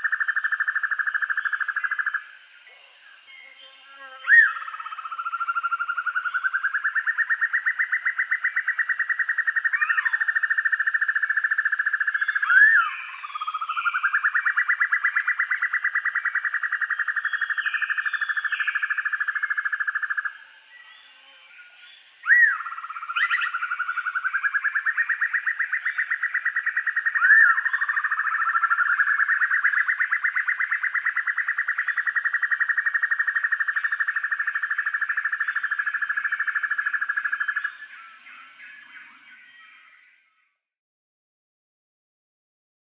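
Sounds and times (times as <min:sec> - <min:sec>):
bird singing rapid trills: 0:03.4 - 0:40.4.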